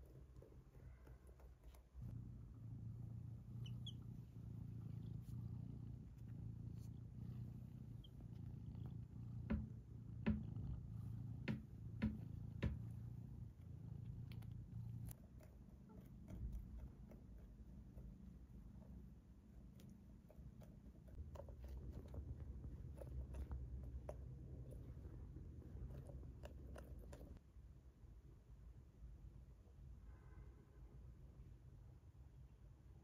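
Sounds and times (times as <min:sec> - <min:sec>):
cat purring: 0:00.0 - 0:27.4.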